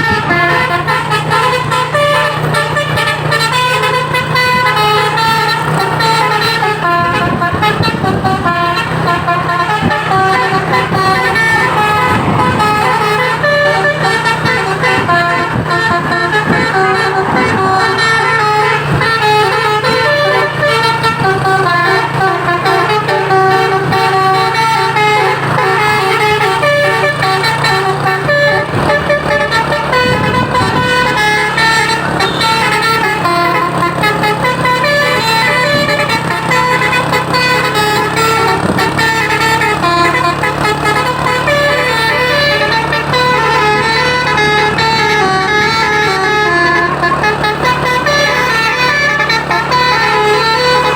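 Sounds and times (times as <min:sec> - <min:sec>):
engine hum: 0:00.0 - 0:50.9
multi-tone musical truck horn: 0:00.0 - 0:50.9.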